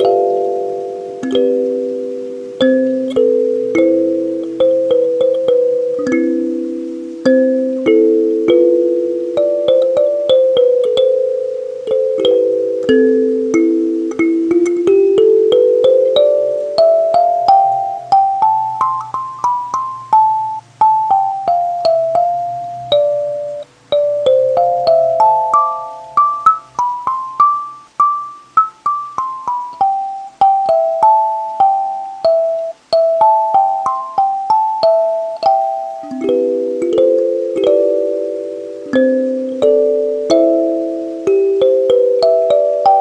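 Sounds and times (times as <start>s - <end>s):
kalimba notes: 0.0s - 43.0s.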